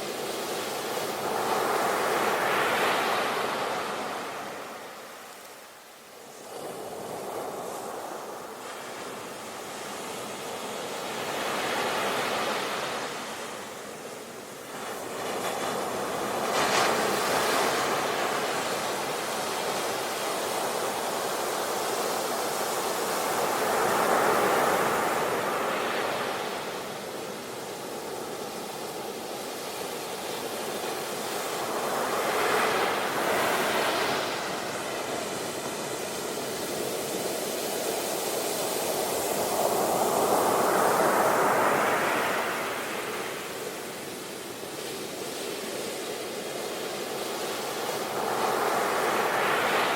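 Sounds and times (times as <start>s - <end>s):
sea waves breaking on beach: 6.4s - 49.9s.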